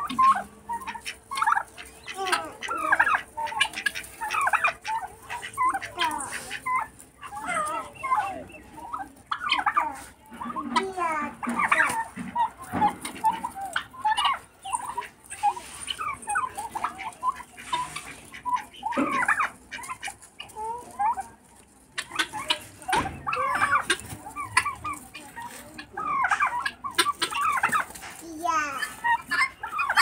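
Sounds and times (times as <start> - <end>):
poultry clucking and chirping: 0.0 - 30.0.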